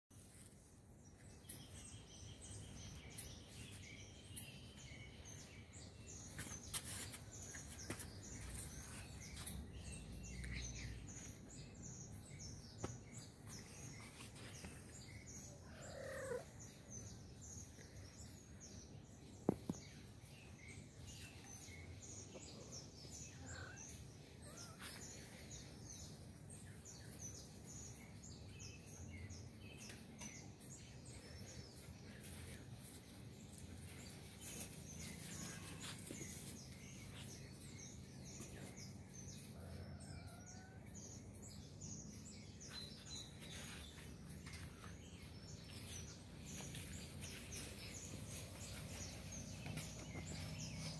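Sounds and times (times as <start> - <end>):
small birds chirping: 0.1 - 50.9.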